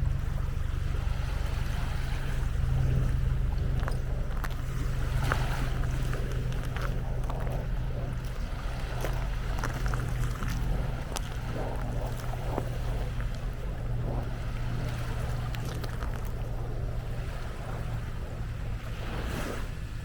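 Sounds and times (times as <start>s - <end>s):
small waves washing on beach: 0.0s - 20.0s
wind rumbling on microphone: 0.0s - 20.0s.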